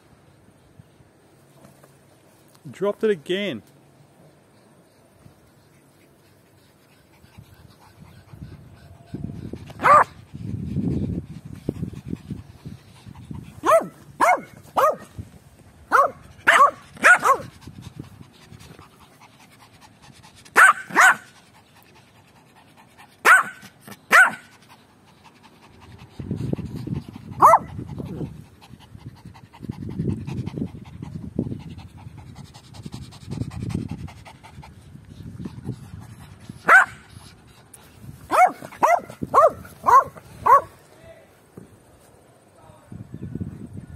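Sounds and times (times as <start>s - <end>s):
puppies panting: 4.3s - 40.8s.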